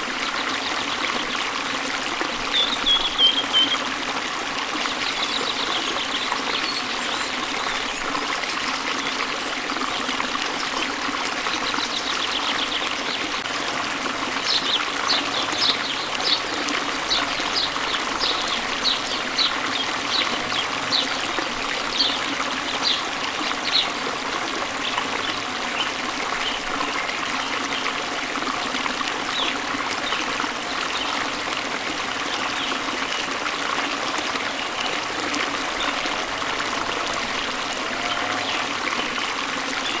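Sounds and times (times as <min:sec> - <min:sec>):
stream trickling: 0:00.0 - 0:40.0.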